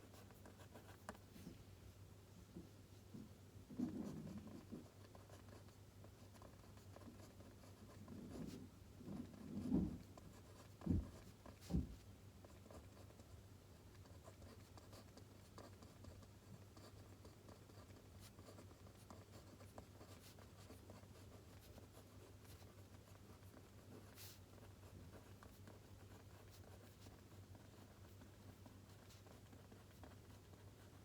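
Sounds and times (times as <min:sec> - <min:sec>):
pen scratching on paper: 0:00.1 - 0:01.2, 0:03.7 - 0:13.3, 0:14.0 - 0:31.0.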